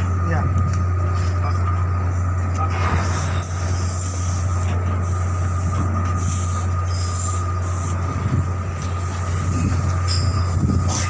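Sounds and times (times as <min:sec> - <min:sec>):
low machinery drone: 0:00.0 - 0:11.0
thin whine: 0:00.0 - 0:11.0.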